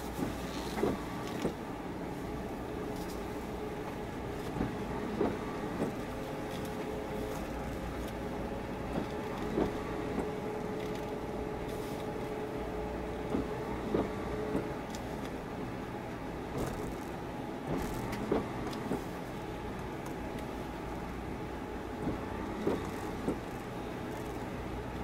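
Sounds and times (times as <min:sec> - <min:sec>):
constant hum: 0:00.0 - 0:25.0.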